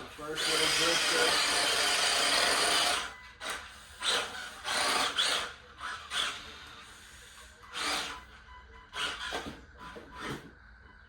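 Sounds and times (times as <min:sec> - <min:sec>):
rc car motor whirring: 0:00.0 - 0:10.4.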